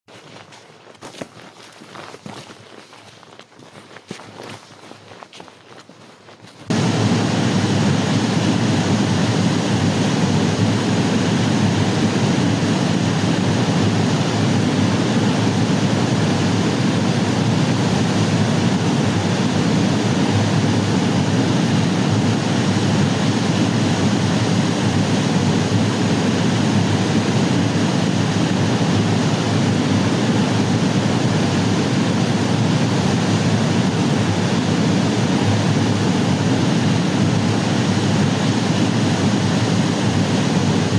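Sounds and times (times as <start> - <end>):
waterfall roaring: 6.7 - 40.9.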